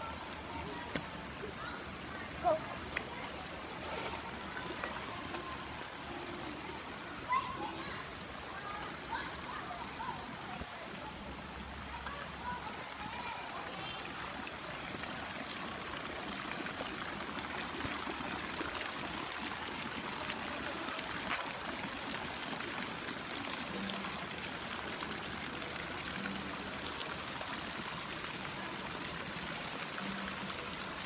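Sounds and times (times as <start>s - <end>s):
fountain jets splashing into pool: 0.0s - 31.0s.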